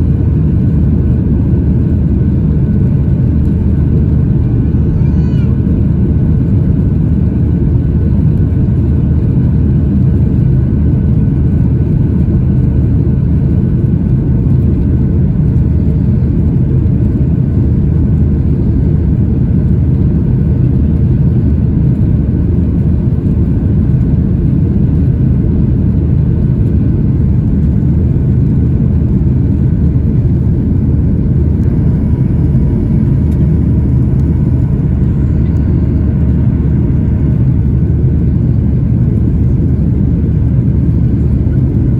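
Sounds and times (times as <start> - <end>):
airplane cabin engine rumble: 0.0 - 41.9.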